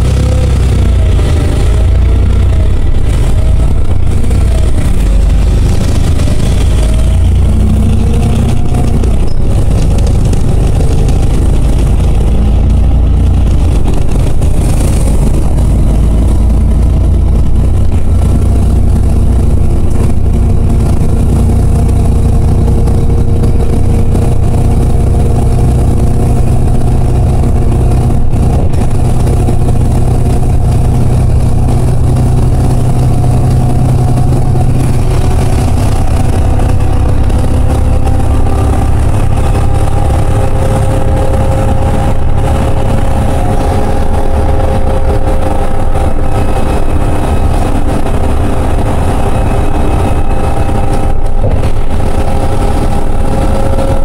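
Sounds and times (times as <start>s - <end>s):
bus diesel engine drone: 0.0s - 54.0s
road noise: 0.0s - 54.0s.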